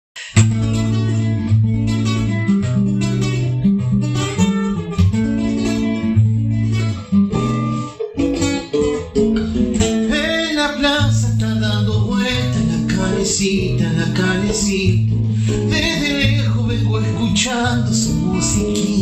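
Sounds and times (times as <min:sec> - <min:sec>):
plucked guitar folk music: 0:00.2 - 0:19.0.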